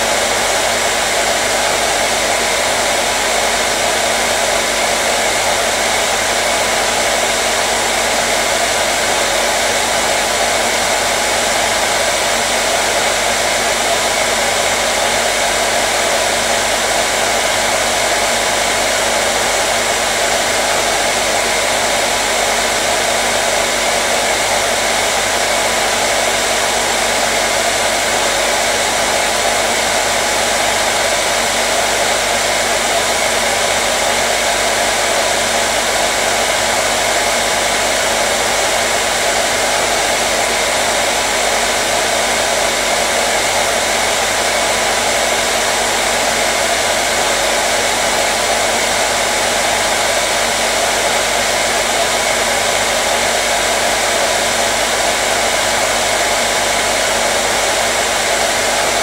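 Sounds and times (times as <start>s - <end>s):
hair dryer blowing: 0.0s - 59.0s.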